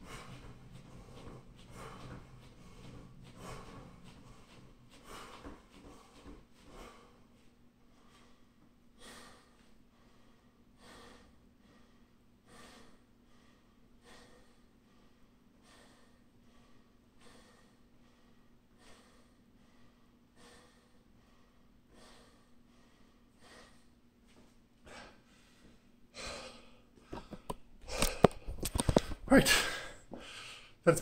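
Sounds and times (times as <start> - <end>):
man breathing hard: 0.0 - 30.8
steady low hum: 0.0 - 31.0.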